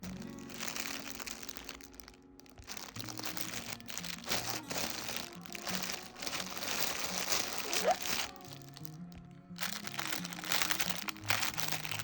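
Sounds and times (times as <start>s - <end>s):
packaging crinkling and rustling: 0.0s - 12.0s
soft background music: 0.0s - 12.0s.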